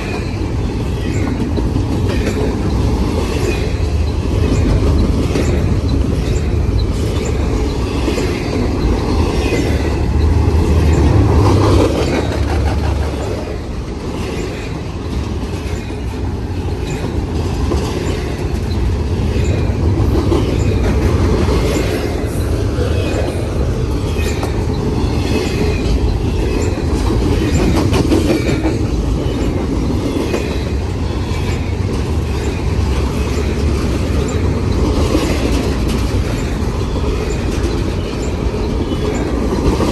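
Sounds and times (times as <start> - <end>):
wheels squealing on rail: 0.0 - 17.2, 17.8 - 39.9
train wheels clacking on rails: 0.0 - 39.9.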